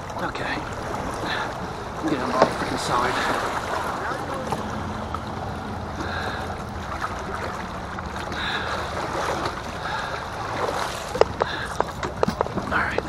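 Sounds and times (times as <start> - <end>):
river water rushing around kayak: 0.0 - 13.0.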